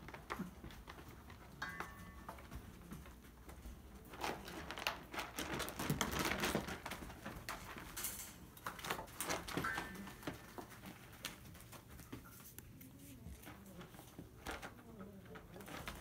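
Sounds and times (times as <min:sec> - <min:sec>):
puppy paws scratching and pattering: 0:00.0 - 0:16.0.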